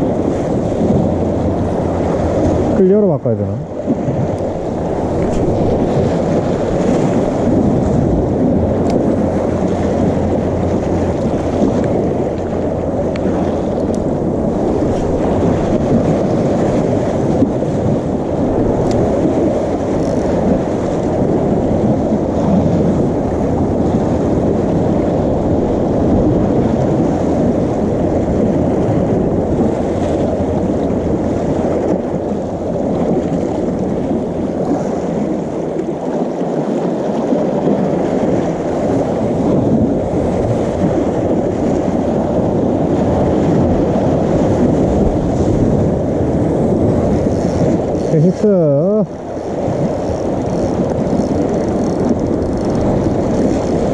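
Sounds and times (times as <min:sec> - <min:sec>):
sea waves: 0:00.0 - 0:53.9
wind: 0:00.0 - 0:53.9
wind buffeting microphone: 0:00.0 - 0:53.9.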